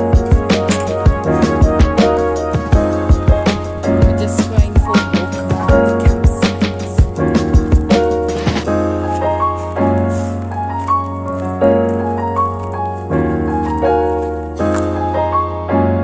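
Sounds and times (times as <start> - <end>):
piano background music: 0.0 - 16.0.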